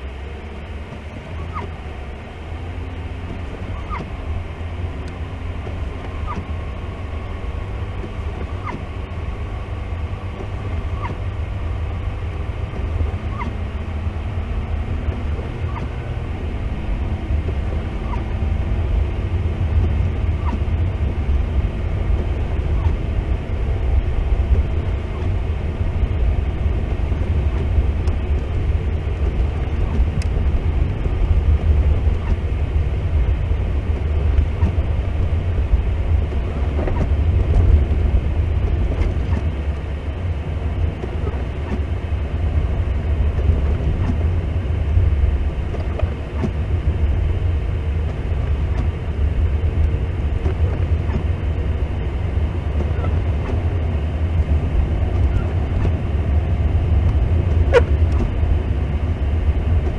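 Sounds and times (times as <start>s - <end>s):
car driving on snow: 0.0s - 59.9s.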